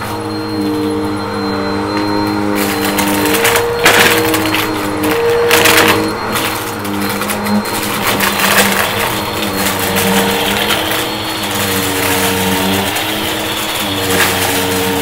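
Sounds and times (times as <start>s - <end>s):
debris crackling and rattling: 0.0s - 15.0s
vacuum cleaner motor humming: 0.0s - 15.0s.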